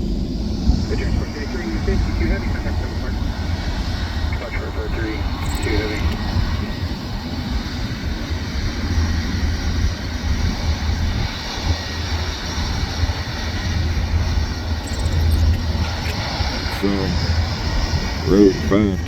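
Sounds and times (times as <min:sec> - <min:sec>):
aircraft engines running: 0:00.0 - 0:19.0.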